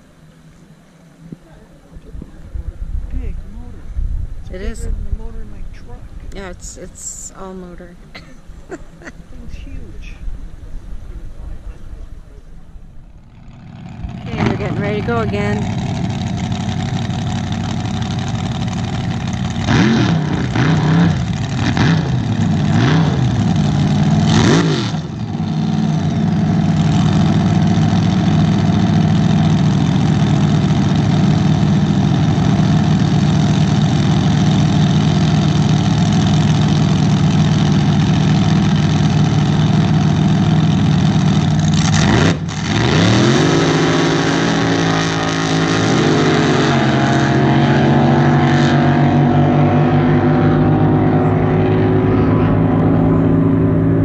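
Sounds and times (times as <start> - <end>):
racing boat engine revving: 5.8 - 54.0.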